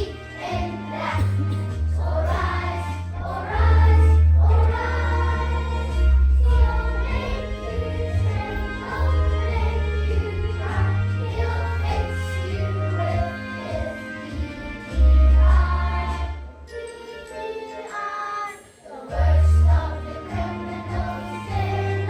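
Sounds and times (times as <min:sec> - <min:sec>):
backing track with bass line: 0:00.0 - 0:16.5, 0:19.1 - 0:22.0
children's choir singing: 0:00.0 - 0:22.0.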